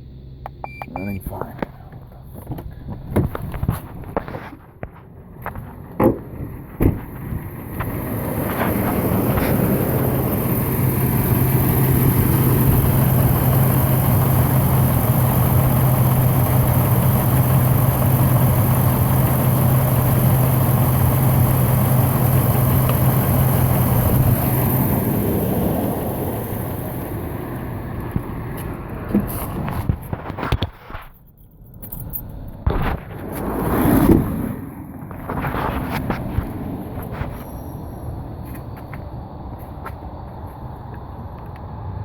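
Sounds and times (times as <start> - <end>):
engine droning: 0.0 - 30.9, 31.6 - 42.0.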